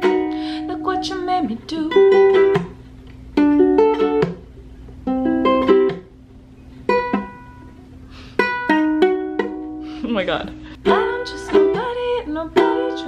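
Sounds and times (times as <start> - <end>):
ukulele plucking chords: 0.0 - 13.0.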